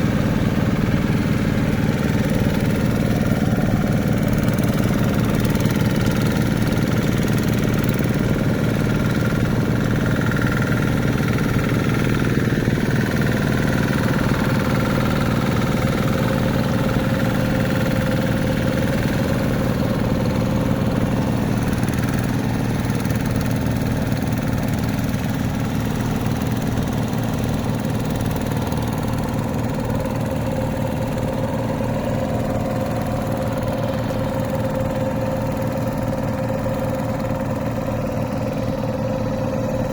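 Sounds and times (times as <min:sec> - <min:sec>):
hand tractor engine chugging: 0:00.0 - 0:39.9.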